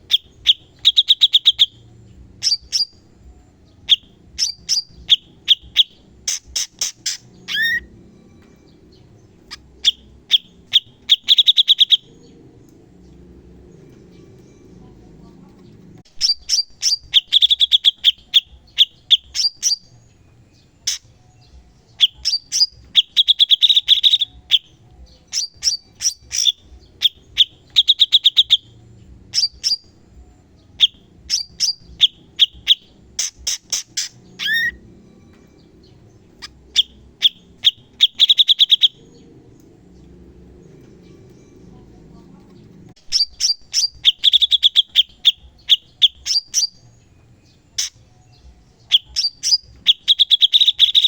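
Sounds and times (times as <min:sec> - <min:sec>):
songbird singing rapid bursts: 0:00.0 - 0:03.2, 0:03.8 - 0:08.0, 0:08.6 - 0:12.7, 0:16.1 - 0:34.9, 0:35.6 - 0:41.8, 0:43.0 - 0:51.0.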